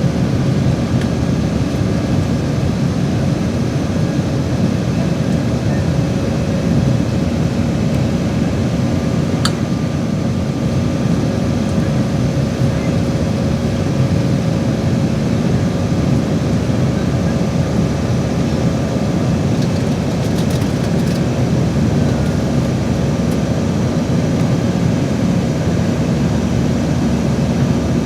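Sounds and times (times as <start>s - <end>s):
jet engine roar in cabin: 0.0s - 28.0s.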